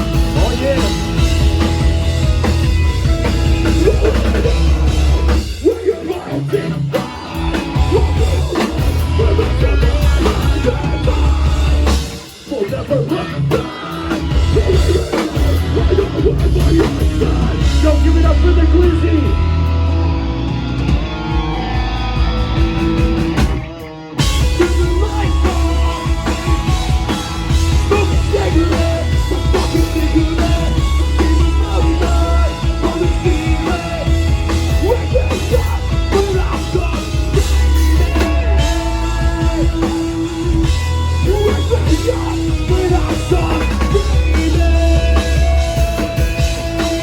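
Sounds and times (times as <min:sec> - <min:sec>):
bass and drum kit: 0:00.0 - 0:47.0
electric guitars: 0:00.0 - 0:47.0
rock band playing live: 0:00.0 - 0:47.0.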